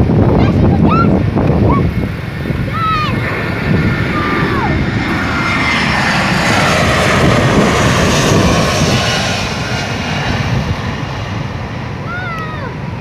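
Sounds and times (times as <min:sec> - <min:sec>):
airliner engine roar overhead: 0:00.0 - 0:13.0
high engine whine: 0:00.0 - 0:13.0.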